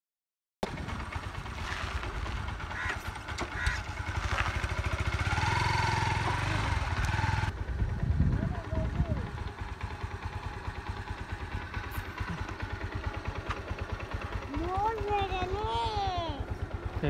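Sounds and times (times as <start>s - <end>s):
motorcycle engine running: 0.6s - 17.0s.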